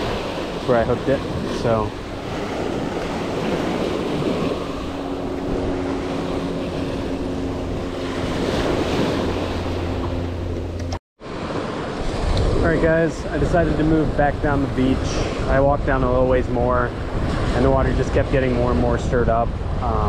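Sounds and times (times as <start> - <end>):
waves breaking on beach: 0.0 - 10.6, 11.2 - 18.9
wind buffeting microphone: 0.0 - 20.0.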